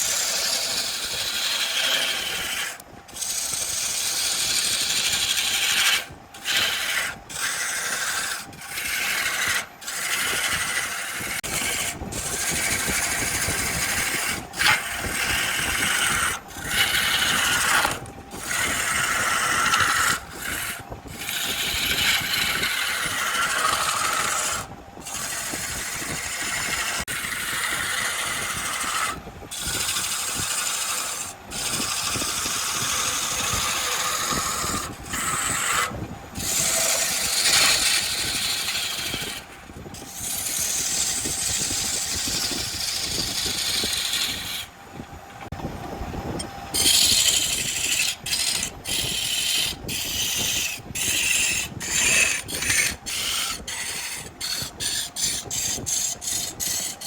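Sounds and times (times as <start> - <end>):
lathe tool scraping wood: 0.0 - 45.6, 46.3 - 57.0.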